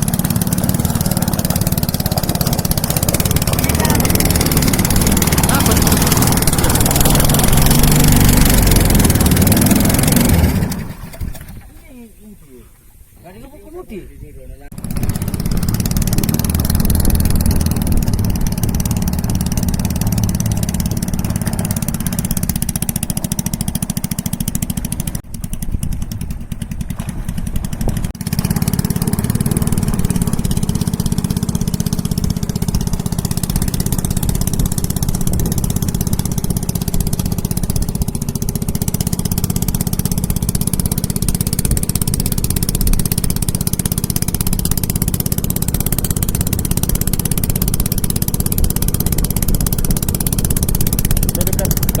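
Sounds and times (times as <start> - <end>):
small boat engine running: 0.0 - 11.8, 14.7 - 52.0.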